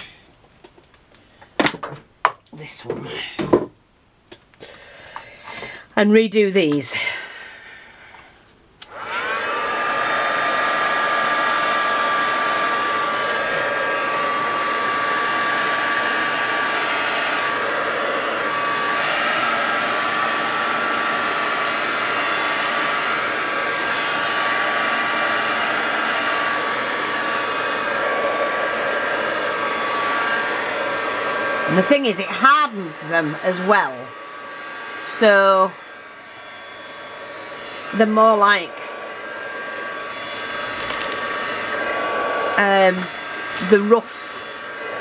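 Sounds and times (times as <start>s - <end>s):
heat gun fan whining: 8.0s - 45.0s.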